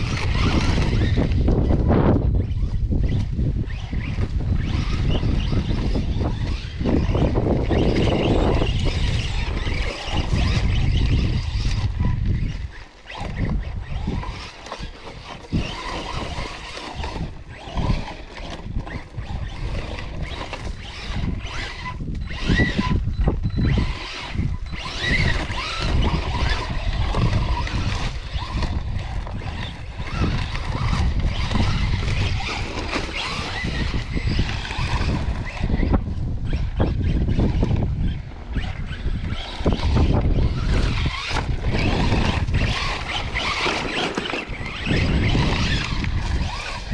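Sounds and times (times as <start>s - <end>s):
electric motor whining: 0.0s - 46.9s
wind buffeting microphone: 0.0s - 46.9s.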